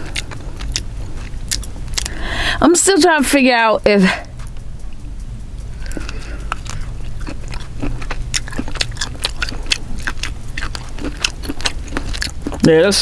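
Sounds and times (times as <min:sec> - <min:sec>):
wet mouth chewing clicks: 0:00.0 - 0:02.2, 0:04.3 - 0:12.8
steady low hum: 0:00.0 - 0:13.0.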